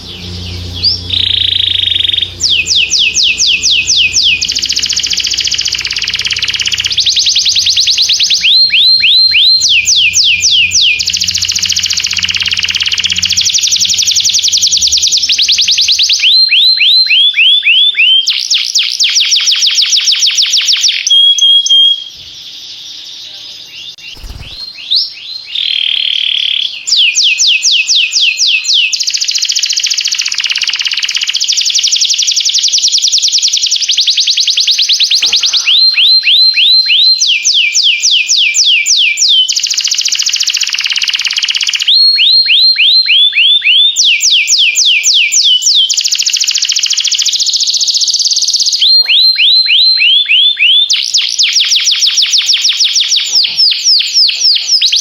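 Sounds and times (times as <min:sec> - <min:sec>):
canary singing rapid trills: 0:00.0 - 0:55.0.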